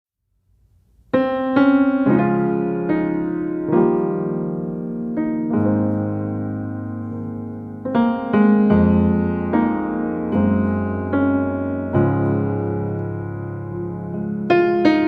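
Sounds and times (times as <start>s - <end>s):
soft piano notes and chords: 1.1s - 15.0s.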